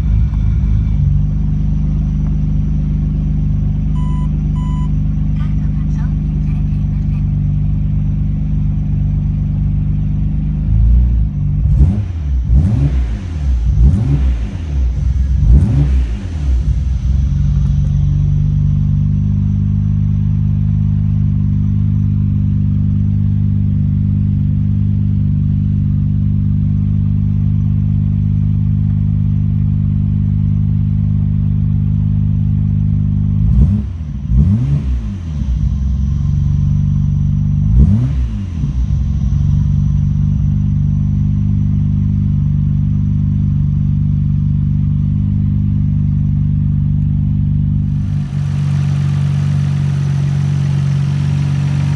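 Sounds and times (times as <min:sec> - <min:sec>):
car engine idling: 0:00.0 - 0:51.9
engine throttle blips: 0:00.0 - 0:51.9.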